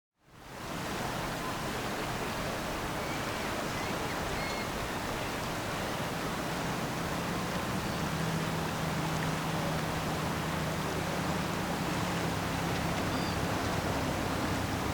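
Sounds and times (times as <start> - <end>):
wind and river water rushing: 0.2 - 14.9
ship engine hum: 2.4 - 14.9.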